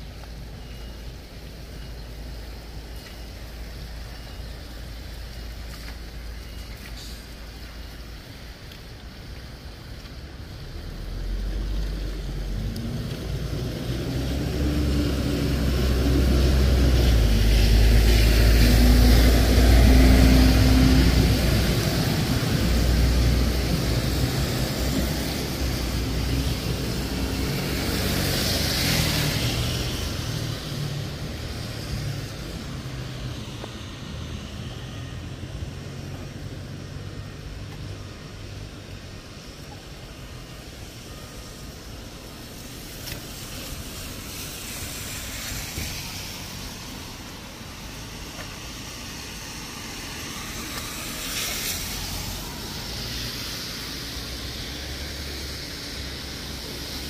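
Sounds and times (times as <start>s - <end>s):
tyres hissing on wet road: 0.0s - 57.0s.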